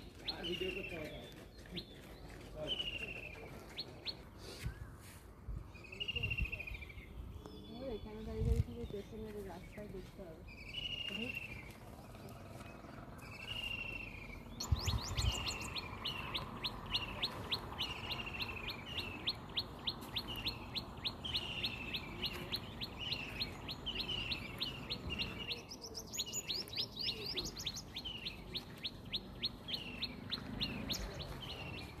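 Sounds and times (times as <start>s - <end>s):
small birds chirping and twittering: 0.0s - 32.0s.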